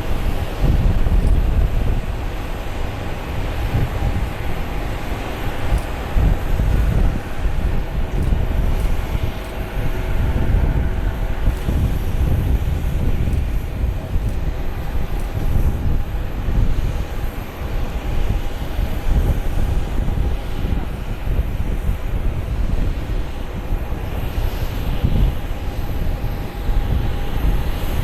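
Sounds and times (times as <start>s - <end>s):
faint engine whine: 0.0s - 28.0s
jet engine rumble: 0.0s - 28.0s.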